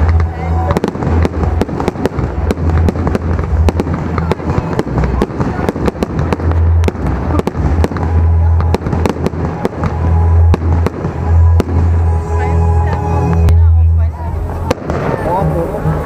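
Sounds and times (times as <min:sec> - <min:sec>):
deep rumble: 0:00.0 - 0:16.0
fireworks bangs and crackles: 0:00.0 - 0:16.0.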